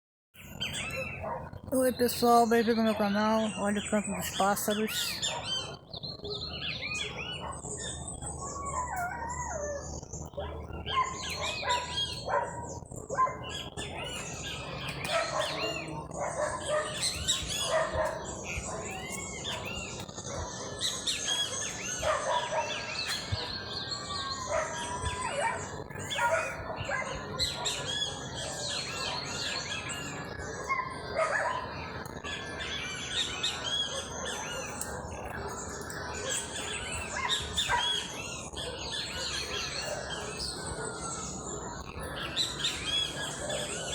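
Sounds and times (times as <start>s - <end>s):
songbirds chirping: 0.4s - 43.9s.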